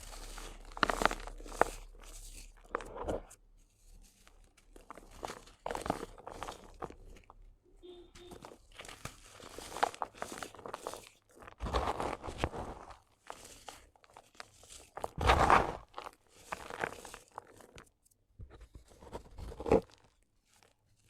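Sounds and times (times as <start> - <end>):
sand cement crumbling and crunching: 0.0 - 7.5, 8.3 - 21.0.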